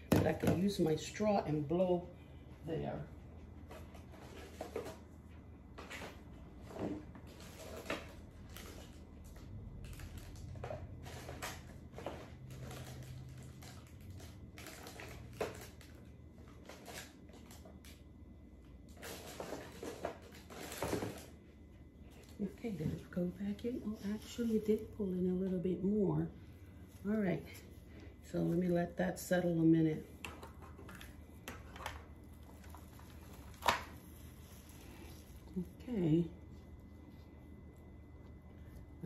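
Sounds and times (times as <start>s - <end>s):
faint low hum: 0.0s - 39.0s.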